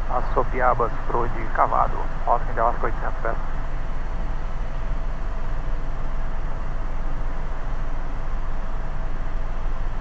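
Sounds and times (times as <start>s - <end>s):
helicopter rotor and engine drone: 0.0s - 10.0s.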